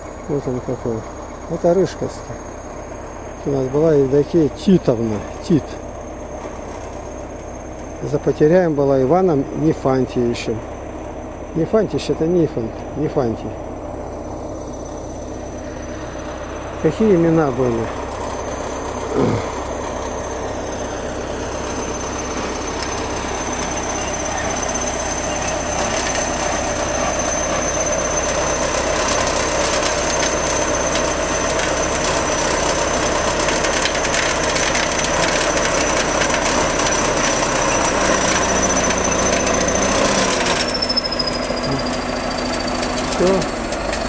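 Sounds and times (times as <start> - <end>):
bulldozer diesel engine working hard: 0.0 - 44.0
thin high whine: 0.0 - 44.0.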